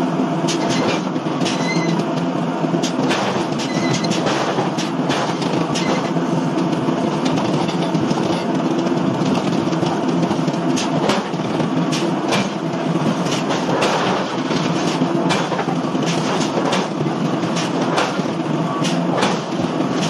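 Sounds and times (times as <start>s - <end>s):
machine rumble: 0.0s - 20.0s.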